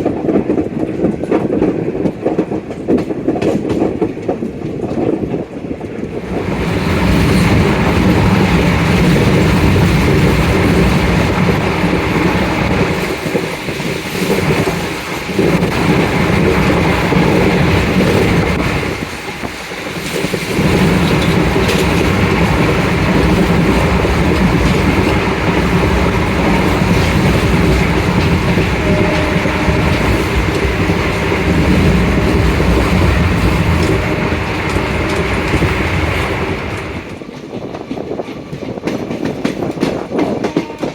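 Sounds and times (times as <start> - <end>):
train coaches rumbling: 0.0 - 40.9
wheels clattering over rail joints: 0.0 - 40.9.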